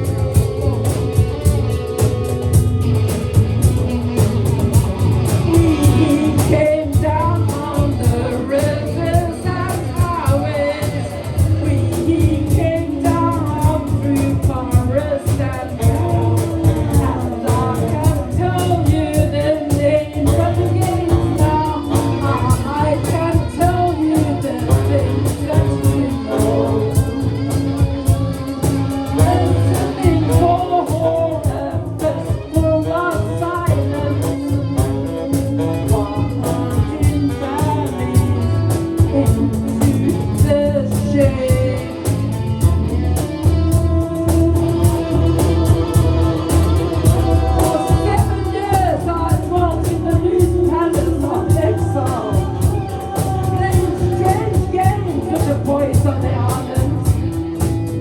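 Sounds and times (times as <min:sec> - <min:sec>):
drums: 0:00.0 - 0:58.0
live rock band playing: 0:00.0 - 0:58.0
wavering singing voice: 0:00.0 - 0:58.0.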